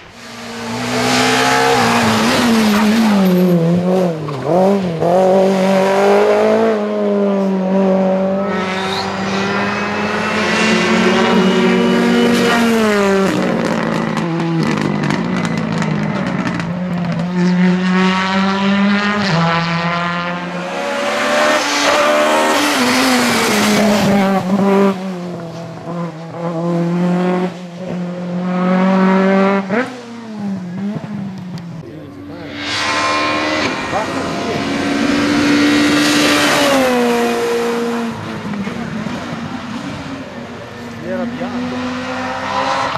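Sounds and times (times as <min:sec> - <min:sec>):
rally cars revving past: 0:00.1 - 0:42.9.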